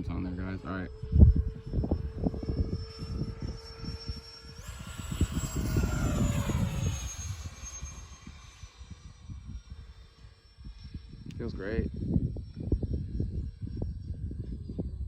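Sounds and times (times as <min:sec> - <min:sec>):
model jet ducted fans whining: 0:00.0 - 0:15.0
wind buffeting microphone: 0:00.0 - 0:15.0.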